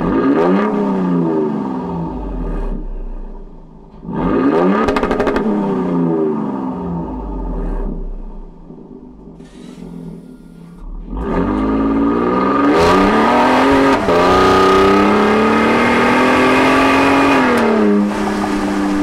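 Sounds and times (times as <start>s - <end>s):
truck engine exhaust accelerating: 0.0s - 19.0s.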